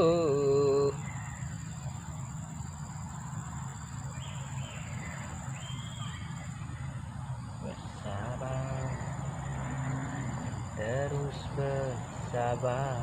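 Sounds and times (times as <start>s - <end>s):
high-pitched insect drone: 0.0s - 6.8s, 7.4s - 13.0s
low steady hum: 0.0s - 9.6s, 10.5s - 13.0s.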